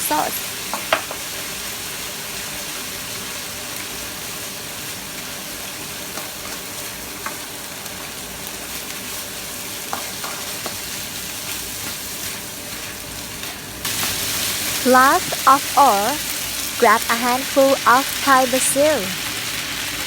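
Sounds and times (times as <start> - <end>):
meat sizzling in a hot pan: 0.0 - 16.8, 19.1 - 20.0.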